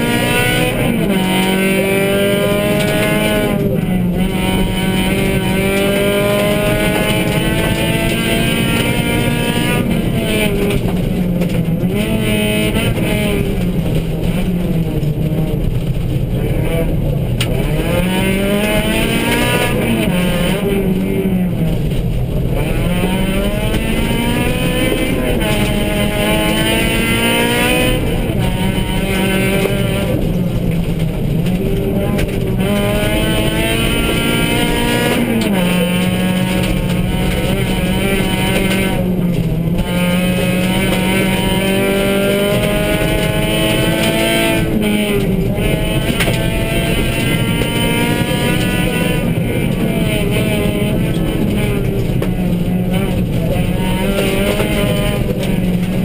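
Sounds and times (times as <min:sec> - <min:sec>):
rally car engine at full throttle: 0:00.0 - 0:56.0.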